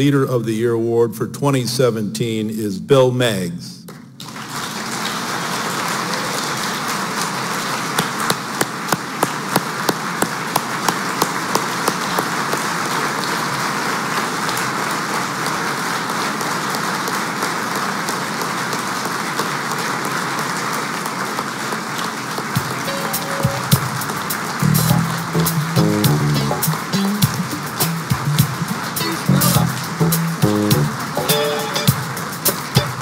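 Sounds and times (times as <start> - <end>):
audience applauding: 3.9 - 33.0
person clapping loudly: 3.9 - 33.0.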